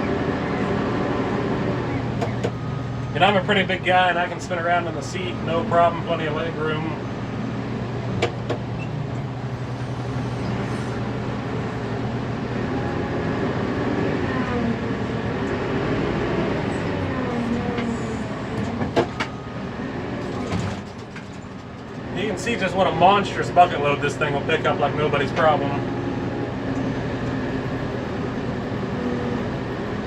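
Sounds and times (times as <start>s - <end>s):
diesel engine and hydraulics: 0.0s - 30.0s.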